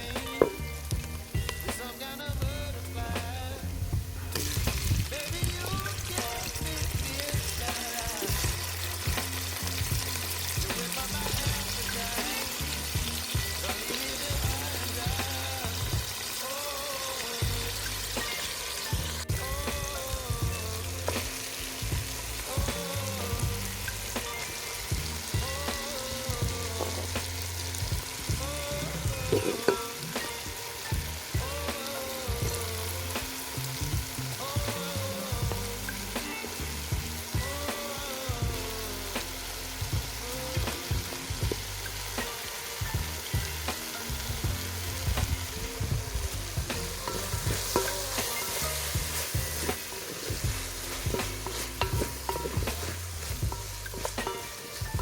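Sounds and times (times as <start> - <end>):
food sizzling in a pot: 0.0 - 55.0
food being stirred: 4.3 - 38.8, 39.9 - 55.0.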